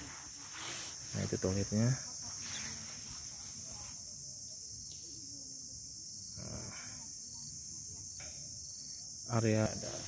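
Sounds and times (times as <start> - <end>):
insect chorus high-pitched drone: 0.0 - 10.0.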